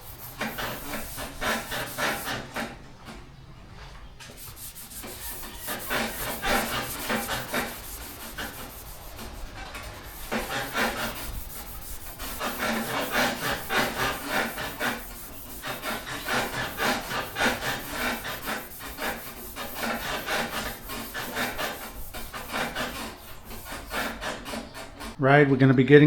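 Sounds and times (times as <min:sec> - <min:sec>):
sanding block rubbing panel: 0:00.0 - 0:02.7, 0:04.3 - 0:25.2.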